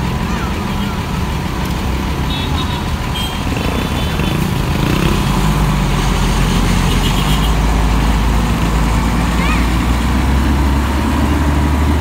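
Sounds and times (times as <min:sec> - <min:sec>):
diesel bus engine rumbling: 0:00.0 - 0:12.0.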